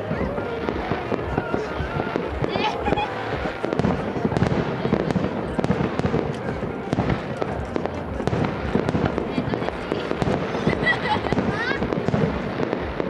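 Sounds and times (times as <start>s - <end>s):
distant fireworks bangs and crackling: 0.0s - 13.0s.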